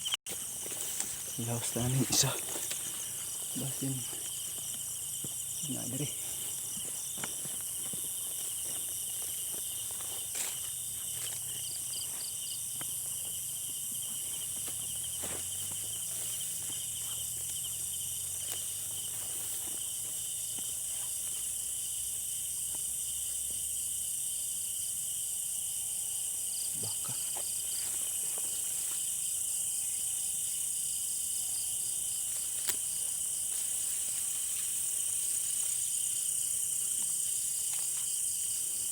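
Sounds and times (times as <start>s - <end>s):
crickets and insects chirring: 0.0s - 38.9s.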